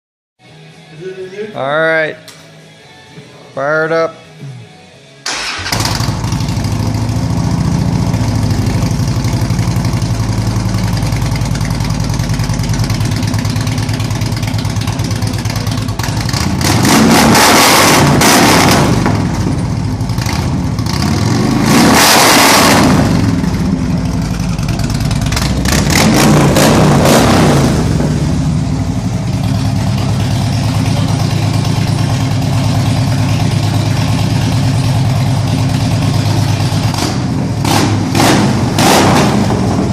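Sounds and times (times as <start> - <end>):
motorcycle engine idling and revving: 5.3 - 39.9.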